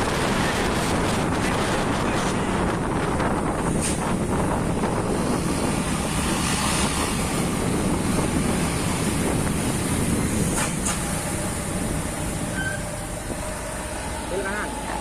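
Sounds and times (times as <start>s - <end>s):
wind on microphone: 0.0s - 14.1s
truck engine: 0.0s - 15.0s.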